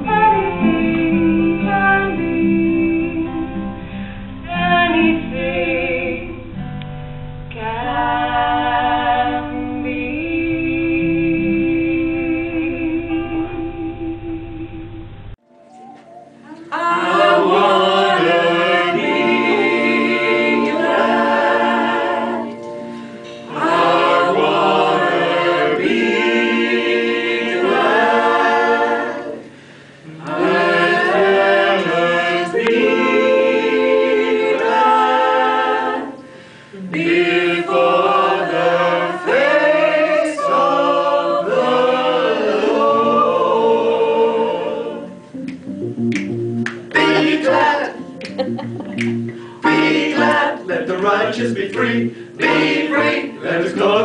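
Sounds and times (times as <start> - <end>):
choir singing a cappella: 0.0 - 6.5, 7.6 - 13.8, 16.4 - 45.4, 46.9 - 48.2, 49.3 - 54.0.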